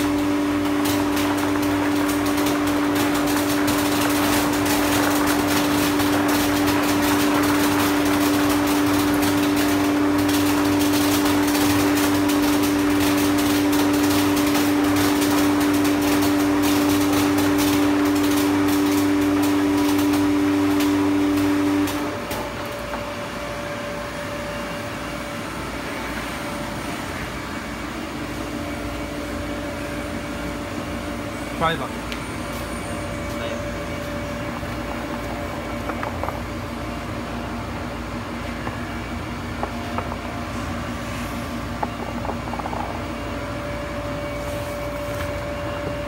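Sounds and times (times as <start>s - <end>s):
machine hum and drone: 0.0s - 46.0s.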